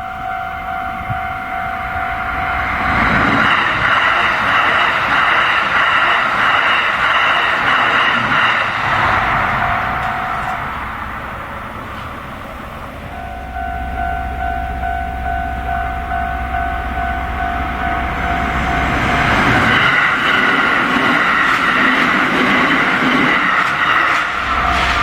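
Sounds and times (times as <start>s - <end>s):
level crossing warning bell: 0.0s - 7.4s, 9.2s - 23.5s
train wheels on rails: 0.0s - 25.0s.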